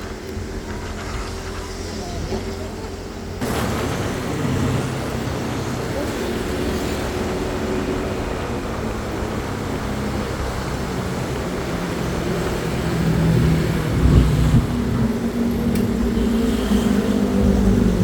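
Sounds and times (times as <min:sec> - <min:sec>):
heavy vehicles passing: 0:00.0 - 0:18.0.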